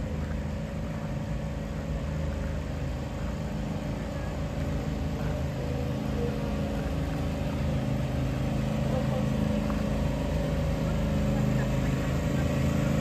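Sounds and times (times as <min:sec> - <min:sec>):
large engine droning: 0:00.0 - 0:13.0.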